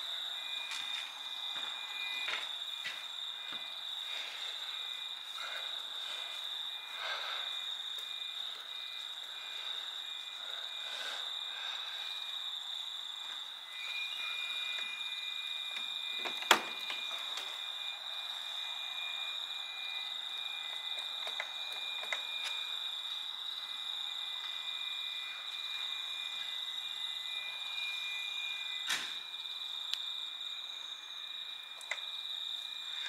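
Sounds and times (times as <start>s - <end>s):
pulsing insect chirp: 0.0s - 33.0s
high-pitched insect chirring: 0.1s - 33.0s.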